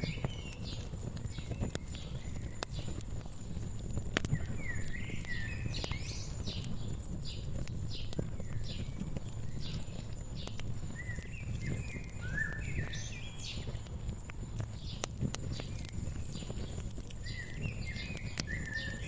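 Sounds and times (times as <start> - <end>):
songbird chirping: 0.0 - 13.9, 14.8 - 19.0
wood fire crackling: 0.0 - 19.0.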